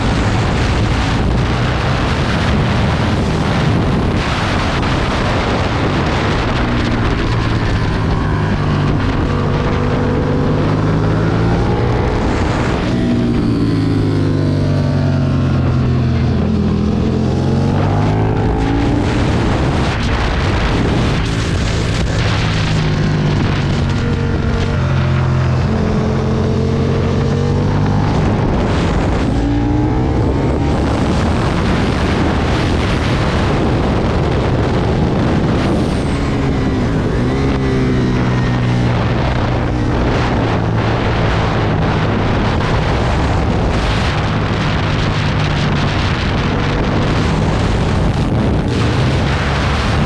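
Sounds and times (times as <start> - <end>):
motorcycle engine revving: 0.0 - 50.0
wind and road noise: 0.0 - 50.0.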